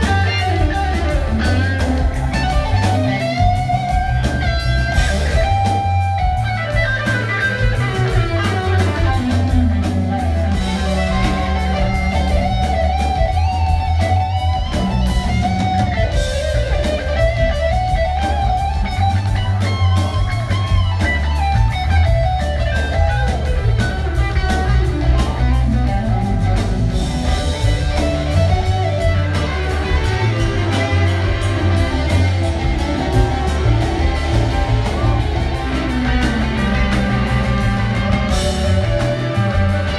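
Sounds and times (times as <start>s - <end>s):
electric guitar lead bending notes: 0.0s - 39.9s
rock band playing: 0.0s - 39.9s.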